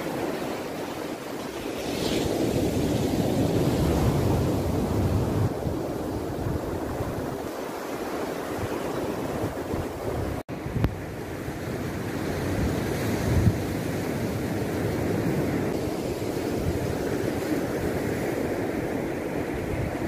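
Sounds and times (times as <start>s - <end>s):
ocean surf on beach: 0.0s - 20.0s
wind buffeting microphone: 0.0s - 20.0s.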